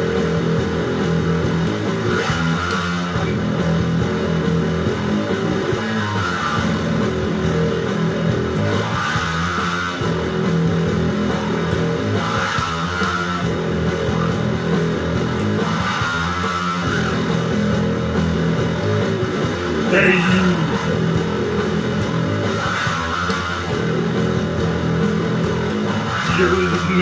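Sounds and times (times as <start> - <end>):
bass guitar: 0.0 - 27.0
electric guitar: 0.0 - 27.0.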